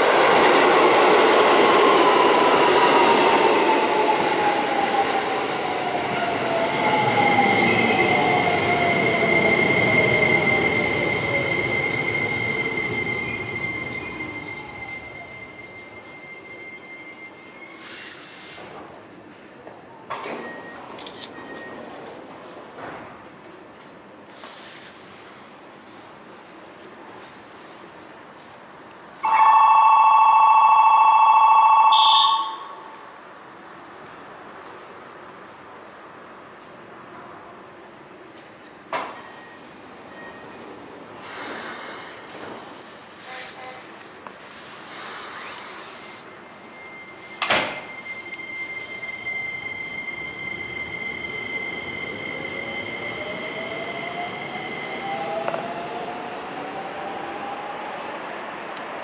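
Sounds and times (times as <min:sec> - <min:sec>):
station platform background hiss: 0:03.9 - 0:59.0.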